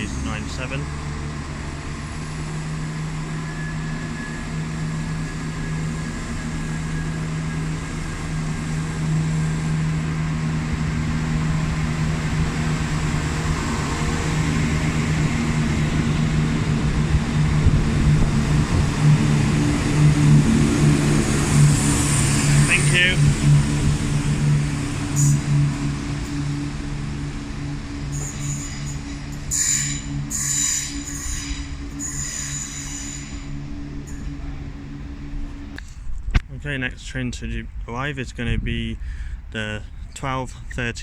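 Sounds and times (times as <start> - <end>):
diesel train engine drone: 0.0 - 41.0.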